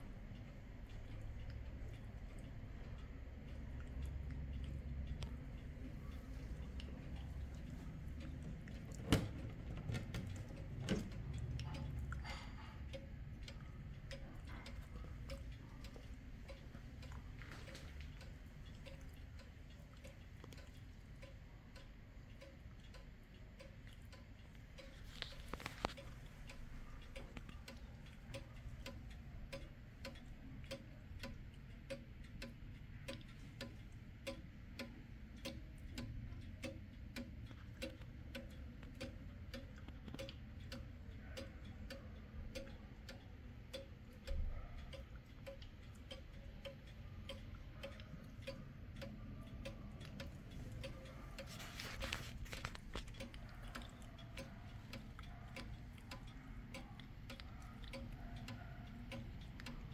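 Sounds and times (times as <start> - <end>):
pendulum clock ticking: 0.0 - 59.9.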